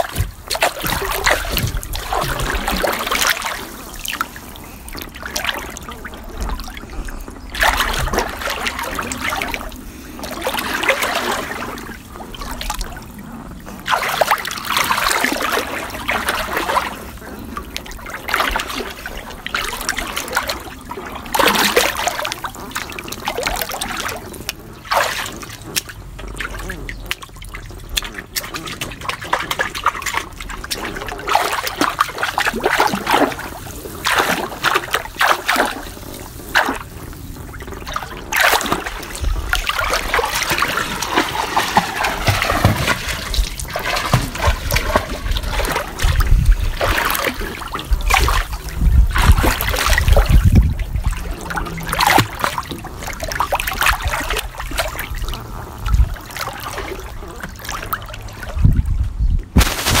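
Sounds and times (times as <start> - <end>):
person splashing in pool water: 0.0 - 13.1, 13.7 - 58.5, 59.6 - 60.0.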